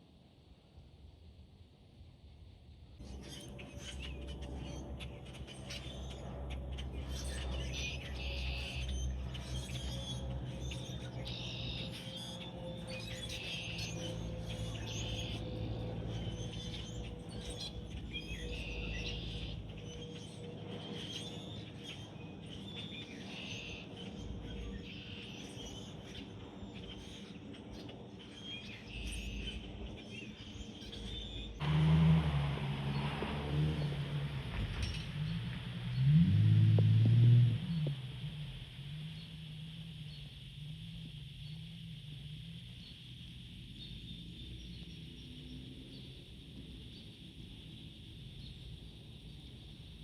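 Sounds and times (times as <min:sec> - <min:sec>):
small birds chirping: 0:03.0 - 0:31.6, 0:33.8 - 0:50.0
low steady drone: 0:03.0 - 0:50.0.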